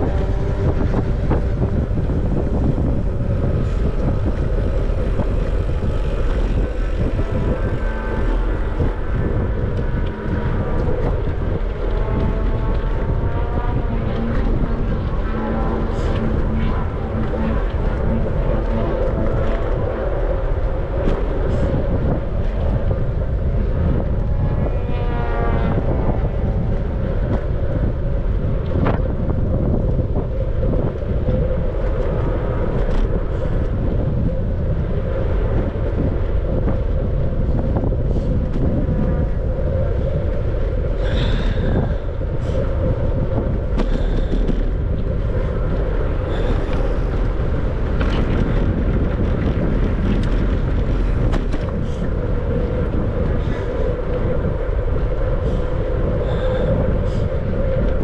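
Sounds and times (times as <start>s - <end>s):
bicycle tyre and path noise: 0.0s - 58.0s
wind buffeting microphone: 0.0s - 58.0s.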